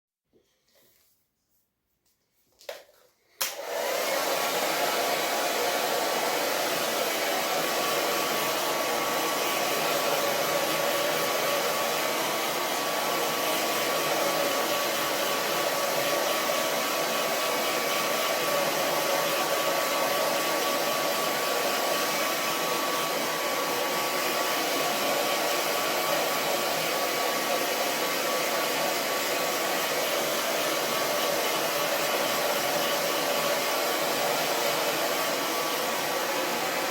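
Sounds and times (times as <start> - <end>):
hair dryer blowing: 3.3 - 36.9.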